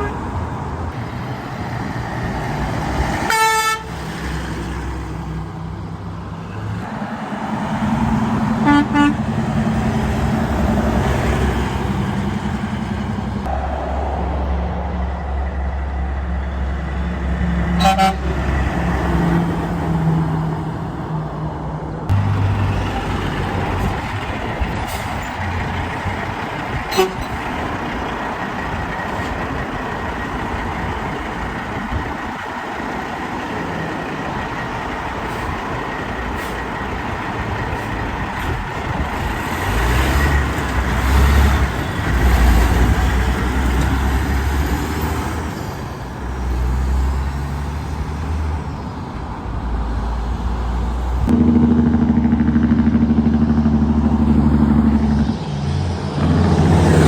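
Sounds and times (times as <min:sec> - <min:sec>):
heavy truck engine rumble: 0:00.0 - 0:57.0
steady engine hum: 0:00.0 - 0:57.0
vehicles passing: 0:00.0 - 0:57.0.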